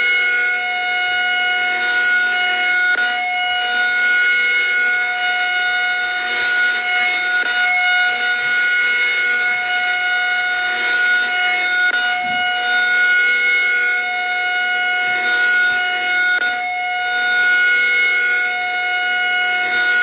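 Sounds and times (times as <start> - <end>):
warning siren steady tone: 0.0 - 20.0.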